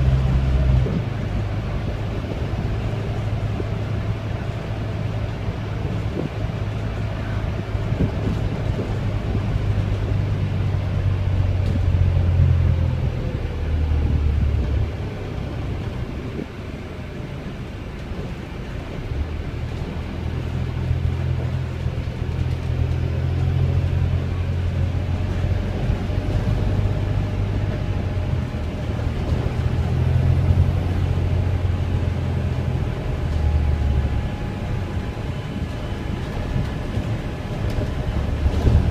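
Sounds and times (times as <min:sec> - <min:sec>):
bus engine drone: 0:00.0 - 0:38.9
road rumble: 0:00.0 - 0:38.9.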